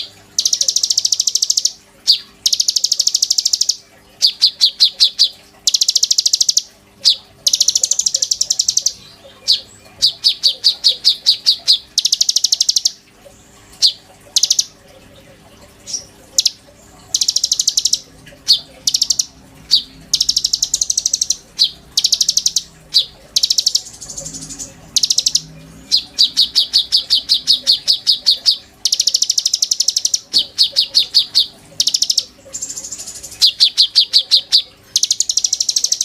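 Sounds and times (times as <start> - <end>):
bird singing rattling trills: 0.0 - 13.1, 13.7 - 14.8, 15.6 - 36.0.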